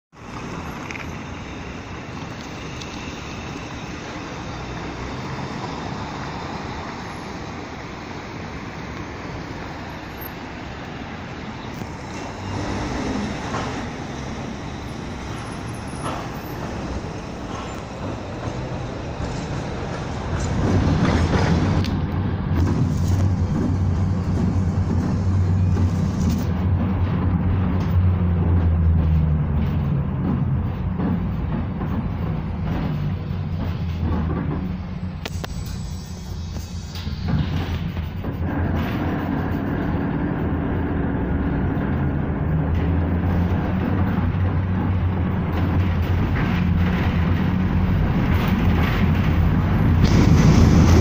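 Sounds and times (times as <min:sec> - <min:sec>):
city street traffic: 0:00.1 - 0:51.0
tram rumbling along rails: 0:00.1 - 0:51.0.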